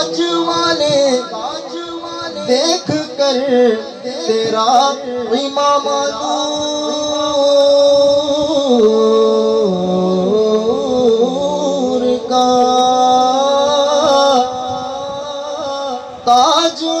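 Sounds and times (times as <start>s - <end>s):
person singing long wordless notes: 0.0s - 17.0s.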